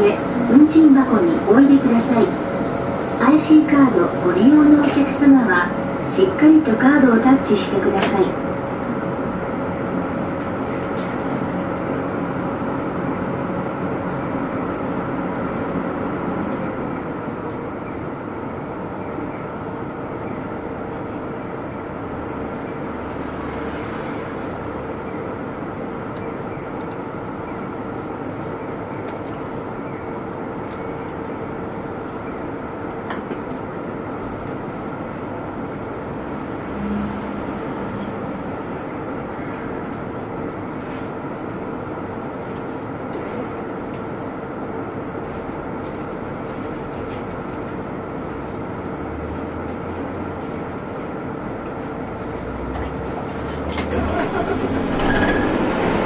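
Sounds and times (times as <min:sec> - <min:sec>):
bus engine accelerating: 0:00.0 - 0:56.0
bus interior hum: 0:00.0 - 0:56.0.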